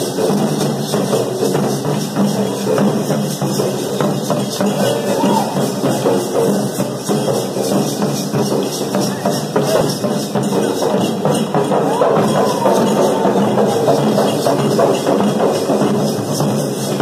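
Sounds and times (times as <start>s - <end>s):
folk drummers playing fast beat: 0.0s - 17.0s.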